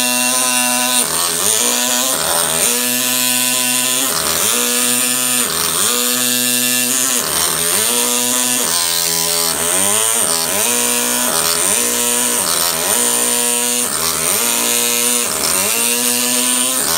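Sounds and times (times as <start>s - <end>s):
pneumatic hammer buzzing: 0.0s - 16.9s.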